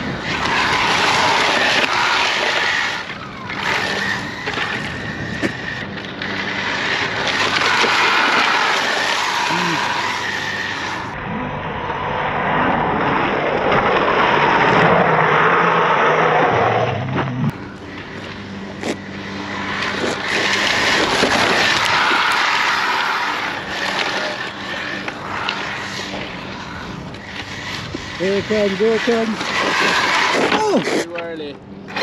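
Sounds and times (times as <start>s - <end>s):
tyre noise: 0.0s - 11.1s, 13.7s - 32.0s
electric motor whining: 0.0s - 11.3s, 12.3s - 32.0s.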